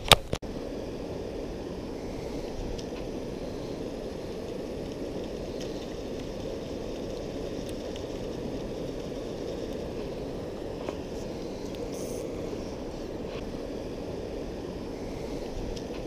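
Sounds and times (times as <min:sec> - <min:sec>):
low rushing noise: 0:00.4 - 0:16.0.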